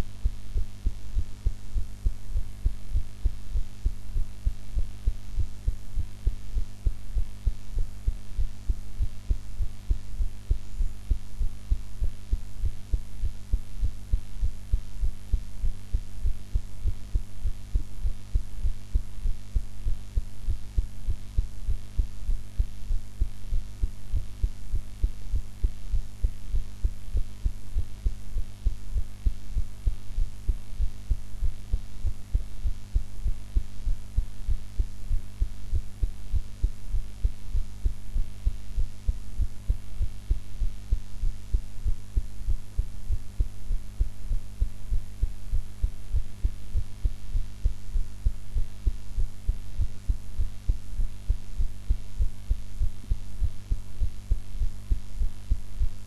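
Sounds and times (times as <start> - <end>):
heartbeat: 0.0 - 56.0
steady low hum: 0.0 - 56.0.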